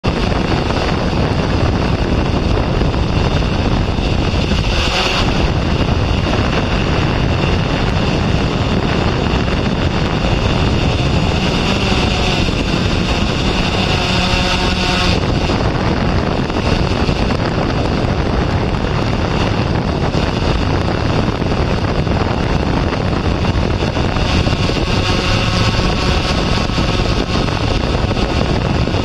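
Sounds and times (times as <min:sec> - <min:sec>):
car driving: 0:00.0 - 0:29.0
wind buffeting microphone: 0:00.0 - 0:29.0.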